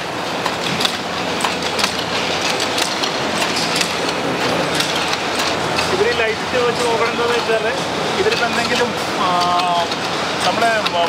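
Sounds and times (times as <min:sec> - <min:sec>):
machinery mechanical din: 0:00.0 - 0:11.0.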